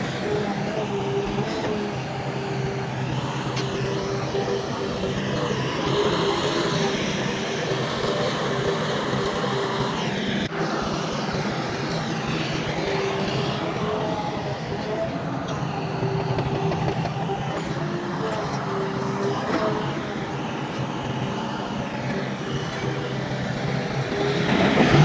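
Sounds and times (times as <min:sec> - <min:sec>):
heavy diesel machinery running: 0:00.0 - 0:25.0
wavering whine: 0:00.0 - 0:25.0.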